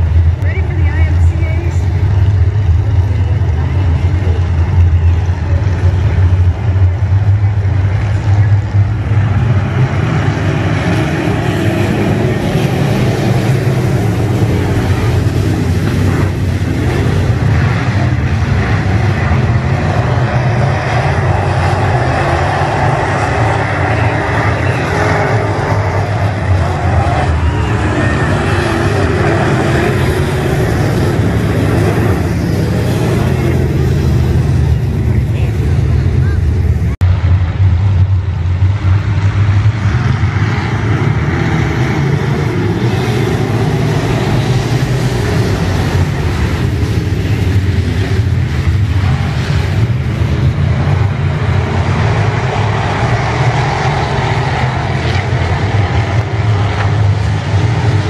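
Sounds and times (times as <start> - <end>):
race car engines rumbling: 0.0 - 58.0.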